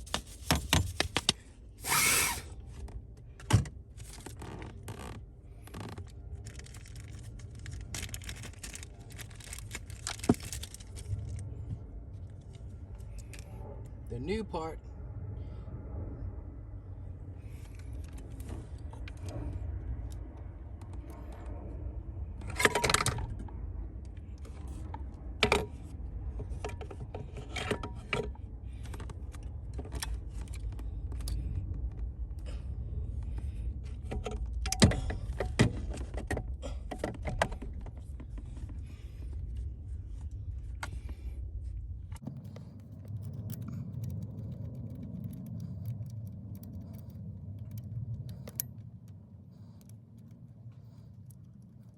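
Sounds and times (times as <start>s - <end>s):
low steady rumble: 0.0s - 51.9s.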